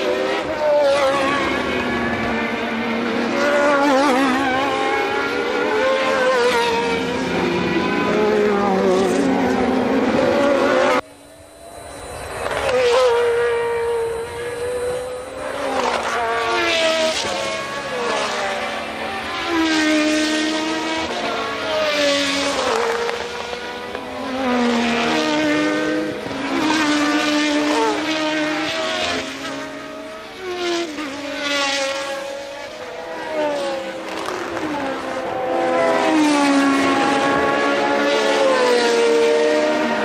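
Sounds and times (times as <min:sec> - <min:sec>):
racing cars passing by: 0:00.0 - 0:40.0.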